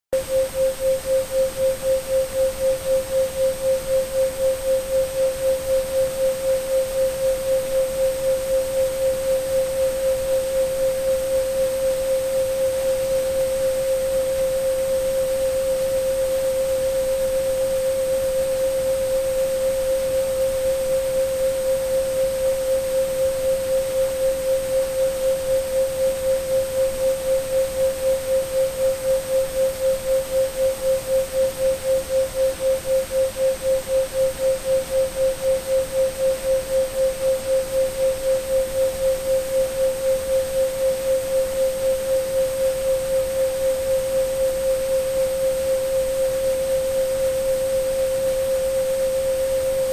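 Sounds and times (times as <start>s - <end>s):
faint high whistle: 0.2s - 49.9s
pulsing sine tone: 0.2s - 49.9s
steady noise hiss: 0.2s - 49.9s.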